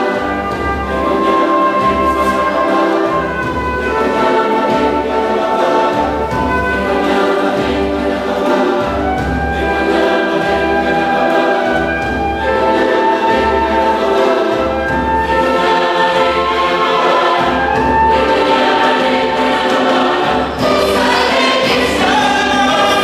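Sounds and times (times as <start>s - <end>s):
mixed choir singing: 0.0s - 23.0s
trumpet: 0.0s - 23.0s.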